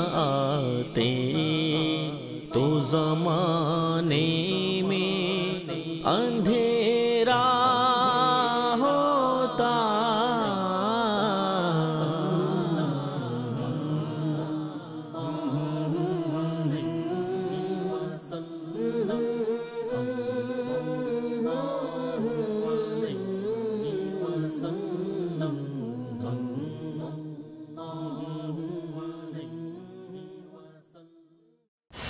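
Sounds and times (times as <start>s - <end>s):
chant-like sung vocals: 0.0s - 31.4s.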